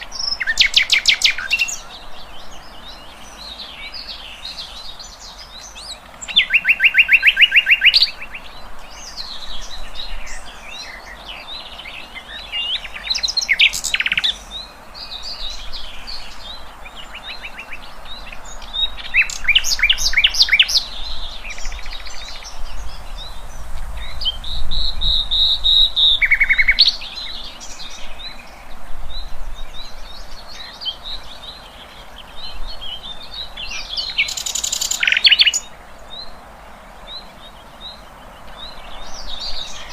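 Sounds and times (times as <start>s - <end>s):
songbird trills and whistles: 0.0s - 36.4s.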